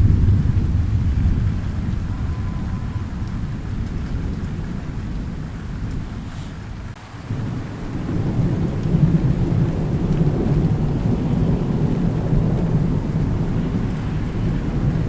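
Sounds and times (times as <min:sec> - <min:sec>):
rolling thunder rumble: 0:00.0 - 0:15.0
steady rain: 0:00.0 - 0:15.0.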